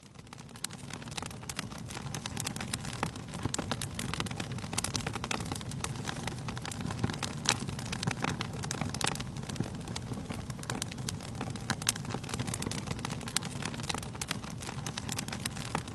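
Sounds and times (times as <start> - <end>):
fire crackles and pops: 0.0 - 15.9
low rumble of flame: 0.0 - 15.9.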